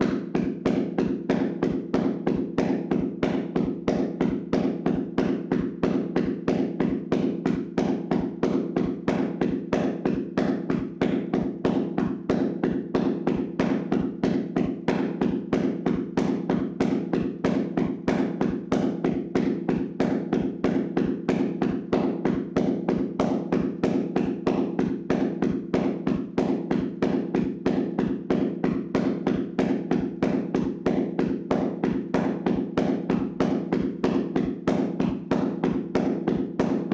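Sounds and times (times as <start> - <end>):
hands slapping on body: 0.0 - 36.9.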